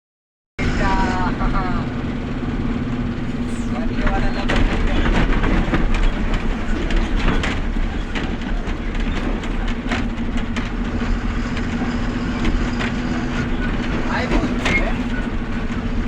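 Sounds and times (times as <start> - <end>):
truck engine running: 0.6 - 16.0
knocks and rattles: 2.1 - 16.0.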